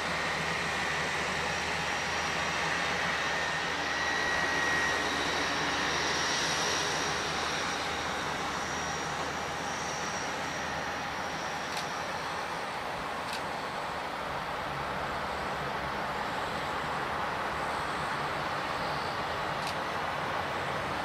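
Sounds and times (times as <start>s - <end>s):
jet engines hissing: 0.0s - 21.0s.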